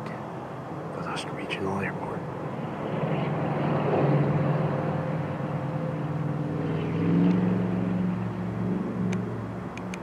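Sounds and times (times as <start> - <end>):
low engine drone: 0.0 - 10.0.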